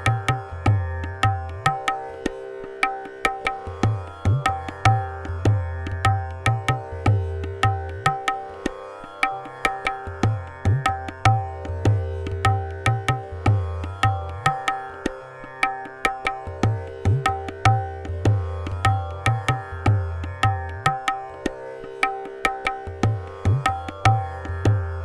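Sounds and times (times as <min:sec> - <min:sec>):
tabla playing: 0:00.0 - 0:25.0
tanpura drone: 0:00.0 - 0:25.0.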